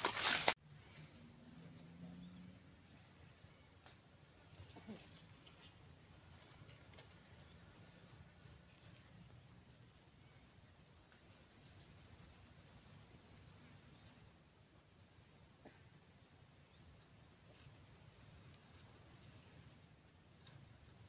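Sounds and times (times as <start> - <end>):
high-pitched insect trill: 0.3 - 21.0.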